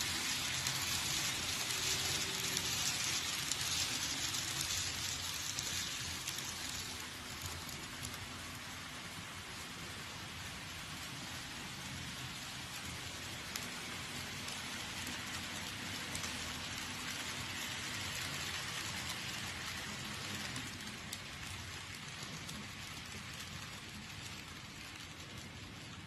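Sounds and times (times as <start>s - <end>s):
small wheels rolling on rails: 0.0s - 26.0s.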